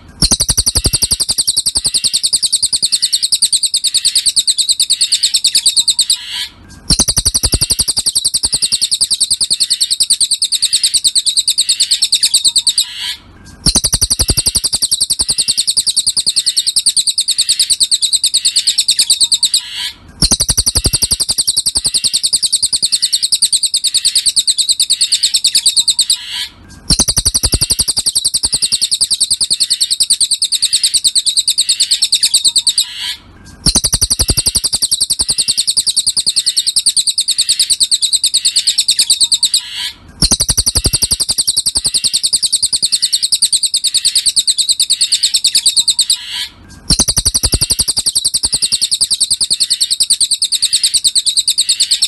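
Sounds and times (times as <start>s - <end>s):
songbird trilling high chirps: 0.2s - 52.0s.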